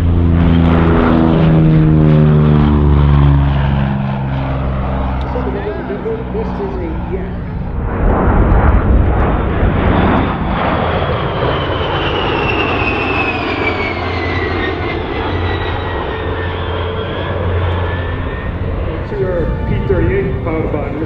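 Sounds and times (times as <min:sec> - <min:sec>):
high jet whine: 0:00.0 - 0:21.0
jets flying past: 0:00.0 - 0:21.0.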